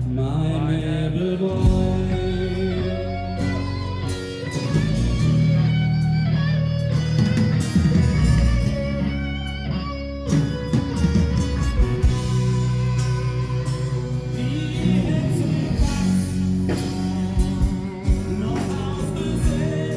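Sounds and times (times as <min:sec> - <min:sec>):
guitar: 0:00.0 - 0:19.9
live band playing: 0:01.6 - 0:19.9.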